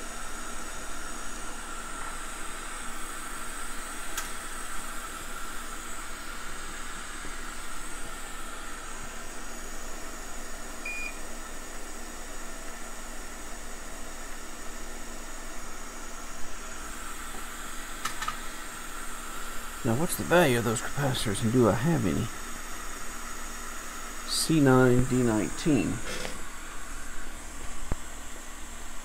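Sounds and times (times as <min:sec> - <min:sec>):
airy hiss of equipment: 0:00.0 - 0:10.7, 0:14.3 - 0:29.0.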